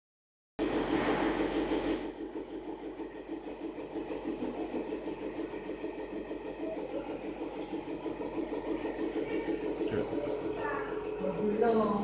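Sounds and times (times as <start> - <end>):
nebulizer pump pulsing hum: 0.6 - 12.0.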